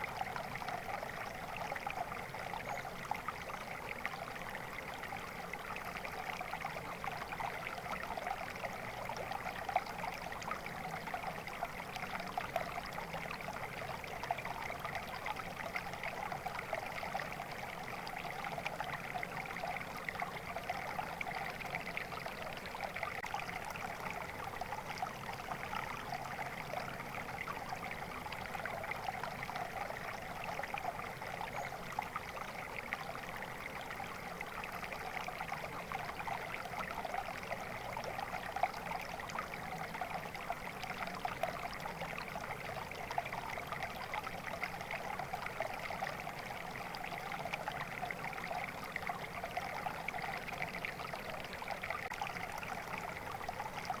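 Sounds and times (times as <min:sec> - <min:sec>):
stream water babbling over stones: 0:00.0 - 0:54.0.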